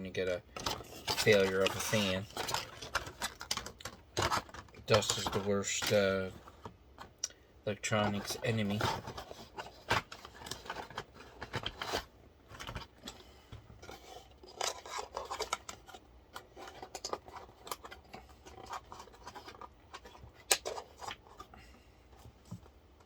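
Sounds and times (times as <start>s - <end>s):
hands handling computer parts: 0.0s - 23.0s
small clicks and scrapes: 0.5s - 23.0s.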